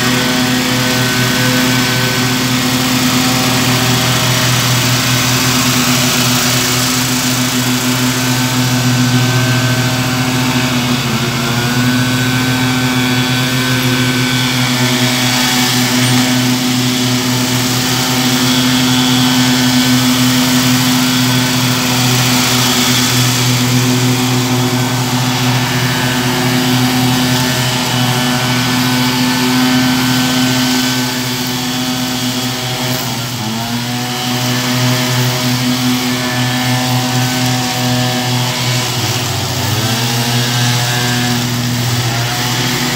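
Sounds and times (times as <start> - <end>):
lawn mower engine running: 0.0 - 42.9.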